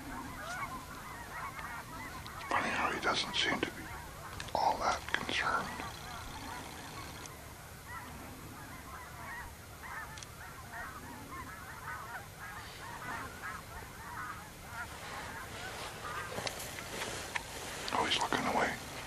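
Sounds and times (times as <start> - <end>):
flock of geese honking: 0.0 - 19.0.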